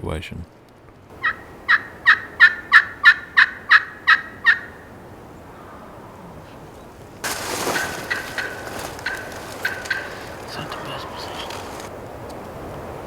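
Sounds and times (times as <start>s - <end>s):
wild turkey calling: 1.1s - 11.9s.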